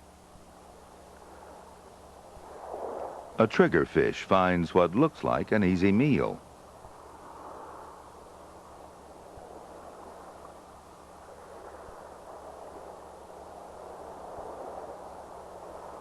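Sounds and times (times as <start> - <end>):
faint rushing noise: 0.0 - 16.0
low hum: 0.0 - 16.0.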